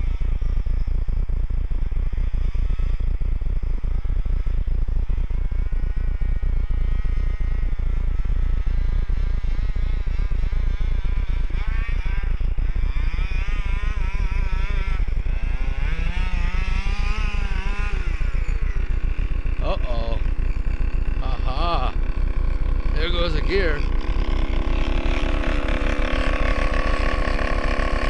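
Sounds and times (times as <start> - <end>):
low rumble: 0.0 - 28.0
rc truck engine buzzing: 0.0 - 28.0.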